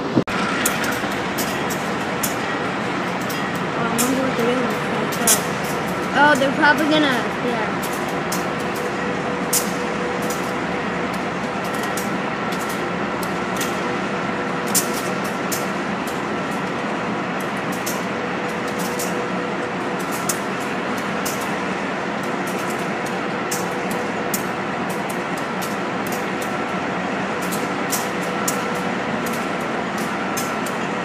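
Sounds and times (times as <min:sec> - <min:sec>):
diesel locomotive engine running: 0:00.0 - 0:31.0.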